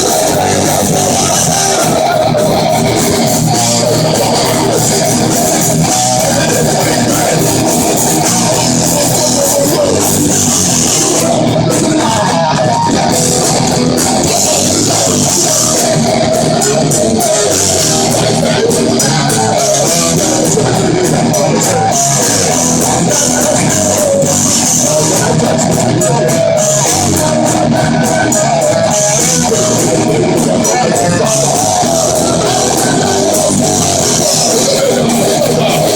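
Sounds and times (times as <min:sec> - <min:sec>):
bass guitar: 0:00.0 - 0:35.9
distorted electric guitars: 0:00.0 - 0:35.9.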